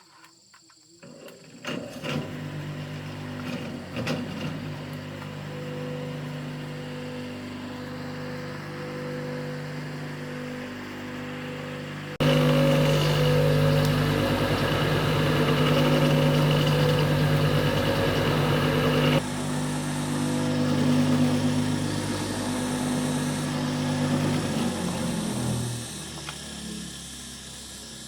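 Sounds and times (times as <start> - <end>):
farm machine engine running: 2.0 - 28.0.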